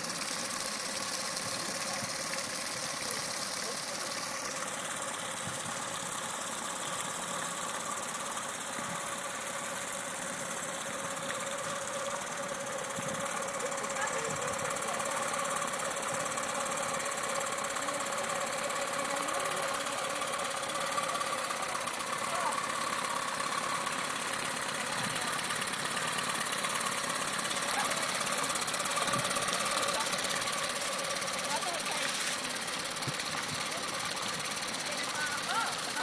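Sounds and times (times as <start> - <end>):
outboard engine running: 0.0 - 36.0.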